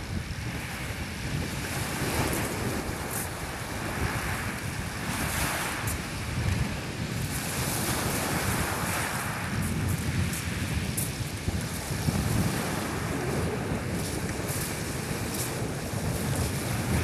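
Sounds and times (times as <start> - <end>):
waves breaking on shingle beach: 0.0 - 17.0
wind buffeting microphone: 0.0 - 17.0.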